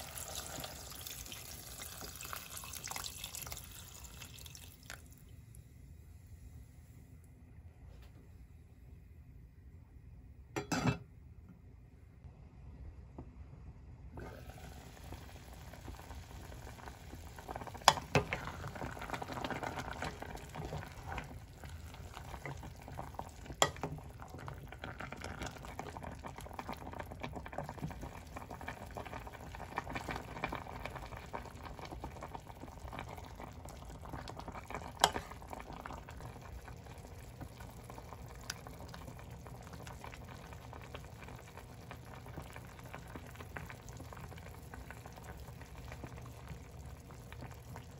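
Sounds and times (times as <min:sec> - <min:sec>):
stew bubbling in a pot: 0:00.0 - 0:05.5, 0:14.1 - 0:47.9.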